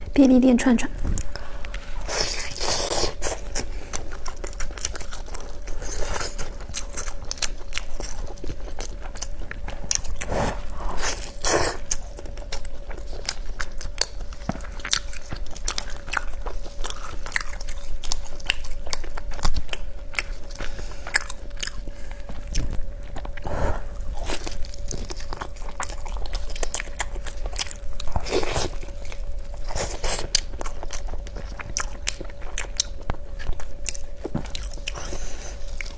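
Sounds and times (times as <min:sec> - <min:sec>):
faint steady hum: 0:00.0 - 0:35.9
biting and chewing food: 0:01.0 - 0:35.9.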